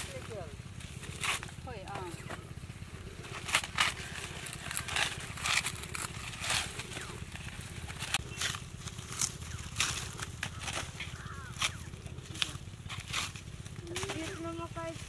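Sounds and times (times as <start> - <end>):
dry corn stalks crackling: 0.0 - 15.0
steady low hum: 0.0 - 15.0.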